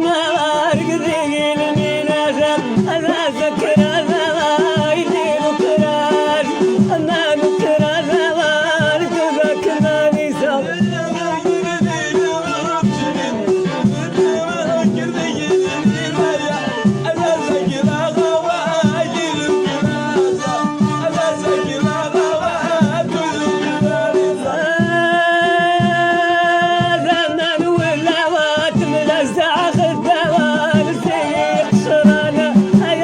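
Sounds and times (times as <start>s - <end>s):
person singing folk melody: 0.0s - 33.0s
rhythmic beat: 0.7s - 33.0s.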